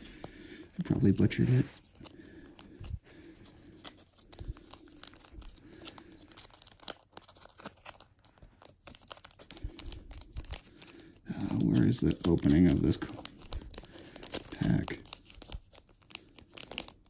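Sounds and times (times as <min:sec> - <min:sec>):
cards clicking and crinkling: 0:00.0 - 0:17.0.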